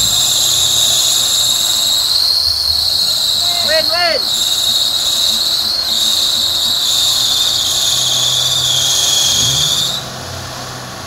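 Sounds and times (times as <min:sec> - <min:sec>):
engine revving: 0:00.0 - 0:11.0
high-pitched whine: 0:00.0 - 0:11.0
wheels spinning in mud: 0:00.0 - 0:11.0.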